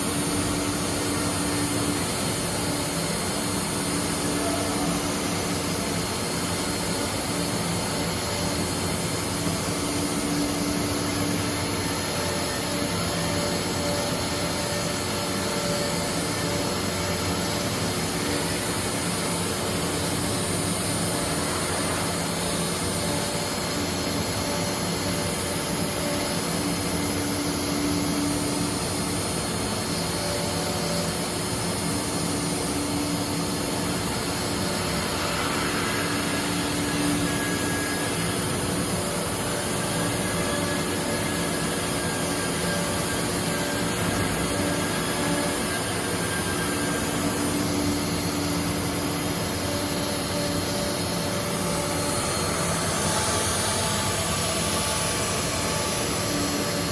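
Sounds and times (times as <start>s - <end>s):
cnc router running: 0.0s - 56.9s
spindle whine: 0.0s - 56.9s.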